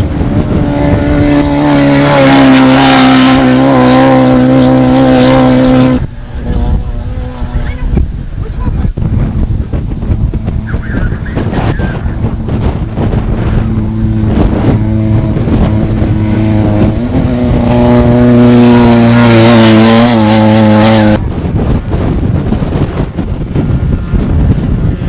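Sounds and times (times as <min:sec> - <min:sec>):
vehicle engine running hard: 0:00.0 - 0:25.0
wind noise: 0:00.0 - 0:25.0.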